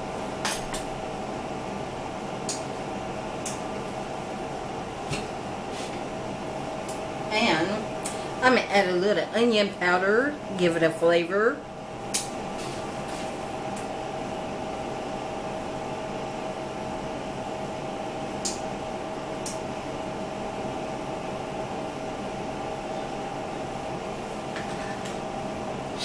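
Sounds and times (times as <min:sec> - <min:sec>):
whirring appliance hum: 0:00.0 - 0:26.0.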